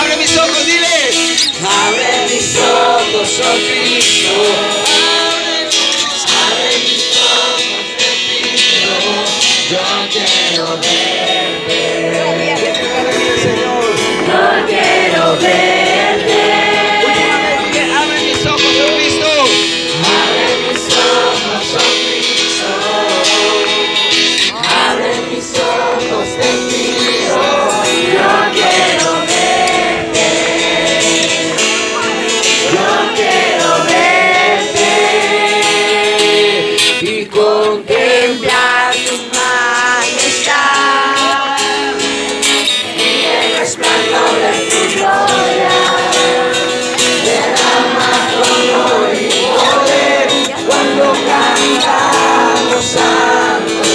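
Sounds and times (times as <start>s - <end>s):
guitar accompaniment: 0.0s - 53.9s
people singing worship song: 0.0s - 53.9s.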